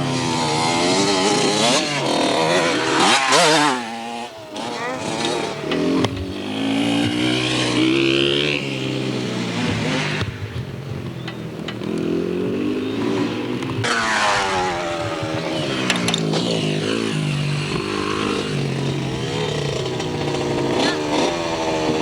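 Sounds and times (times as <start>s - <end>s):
dirt bike engine revving: 0.0s - 10.5s, 11.8s - 22.0s.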